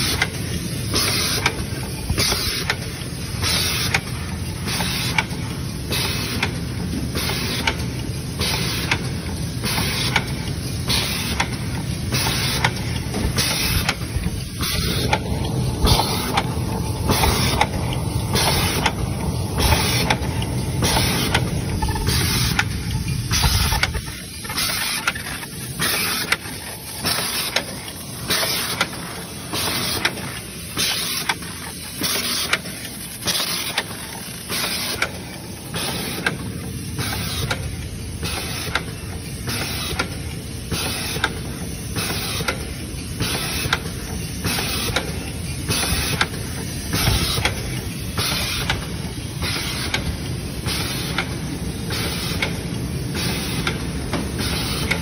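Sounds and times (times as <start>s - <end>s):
machine clacks and hissing puffs: 0.0s - 55.0s.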